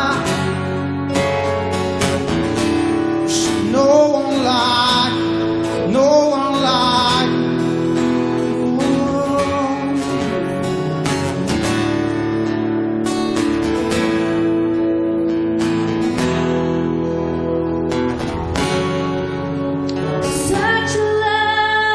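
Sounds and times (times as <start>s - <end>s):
strummed acoustic guitar: 0.0s - 21.8s.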